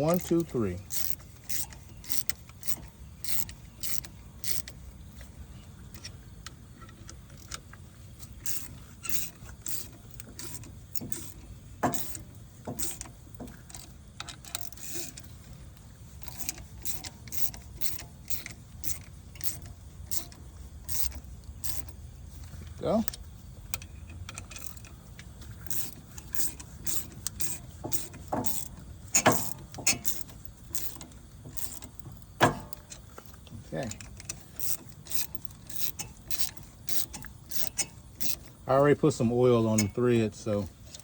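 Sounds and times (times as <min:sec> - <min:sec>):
ratchet clicking: 0:00.0 - 0:05.3, 0:08.2 - 0:41.0.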